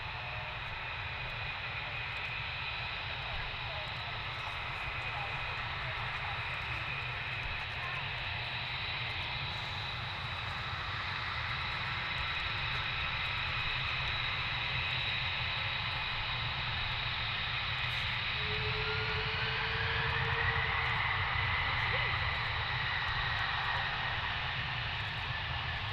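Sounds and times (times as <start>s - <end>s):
aircraft engines whining: 0.0s - 25.9s.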